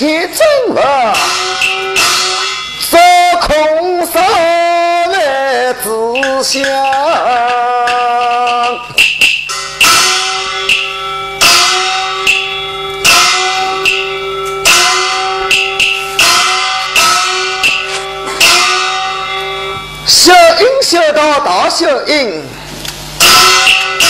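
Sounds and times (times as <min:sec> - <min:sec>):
ringing metal percussion strokes: 0:00.7 - 0:21.3, 0:23.0 - 0:24.0.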